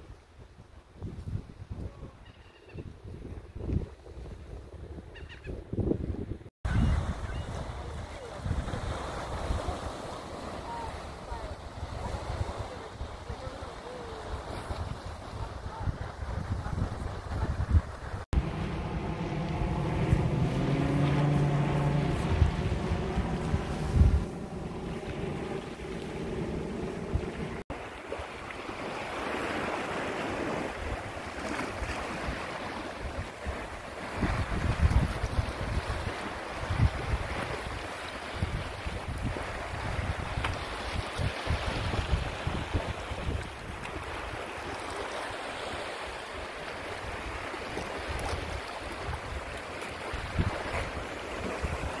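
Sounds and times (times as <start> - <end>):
wind buffeting microphone: 0.4 - 27.7, 29.2 - 44.6, 47.1 - 52.0
waves washing against rocks: 7.6 - 52.0.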